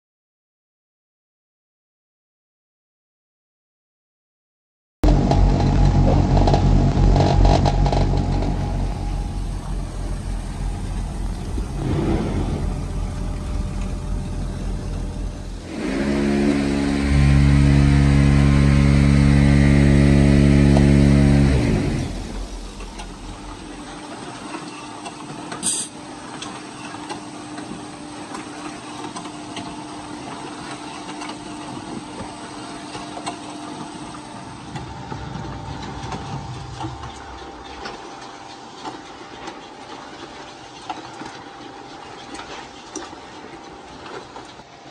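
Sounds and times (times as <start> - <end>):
concrete mixer hum: 5.0 - 44.9
conveyor belt machinery drone: 5.0 - 44.9.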